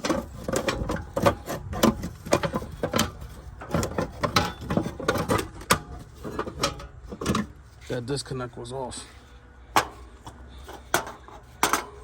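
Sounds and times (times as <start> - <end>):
hard parts clicking and clacking: 0.0 - 7.7, 9.7 - 12.0.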